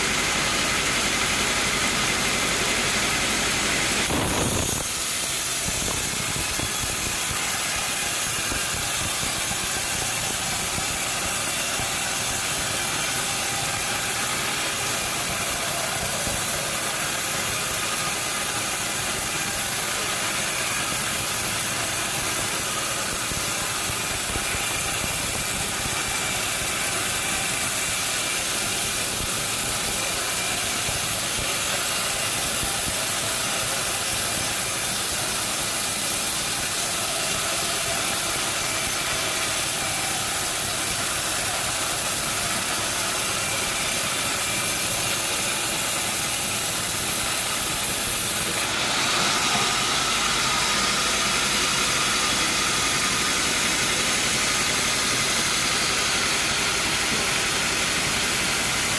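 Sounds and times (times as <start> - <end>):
sawmill machinery sawing: 0.0 - 58.9.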